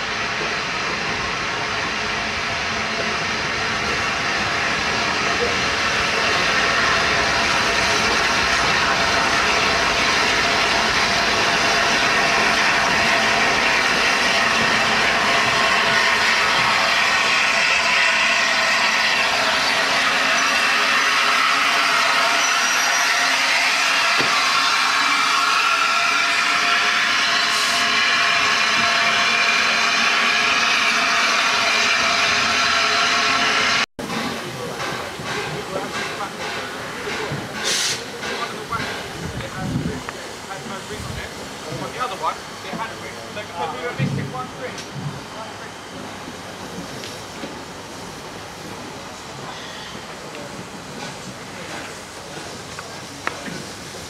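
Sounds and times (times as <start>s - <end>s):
steam hissing: 0.0s - 54.0s
train rumbling: 0.0s - 54.0s.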